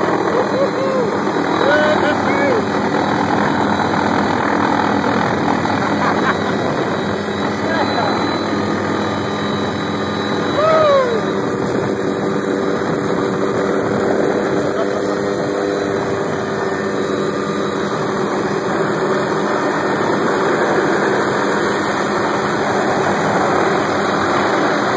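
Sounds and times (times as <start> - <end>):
helicopter engine and rotor drone: 0.0 - 24.9.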